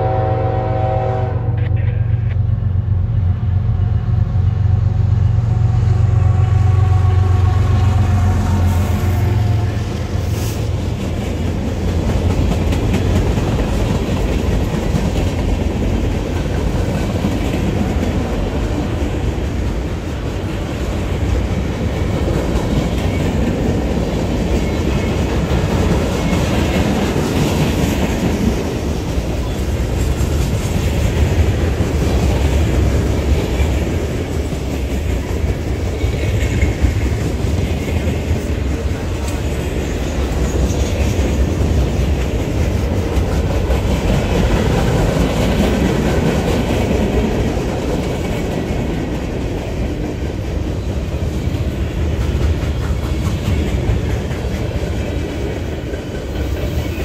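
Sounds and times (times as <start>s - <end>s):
train rumbling past: 0.0s - 57.0s
clickety-clack of train wheels: 5.7s - 57.0s.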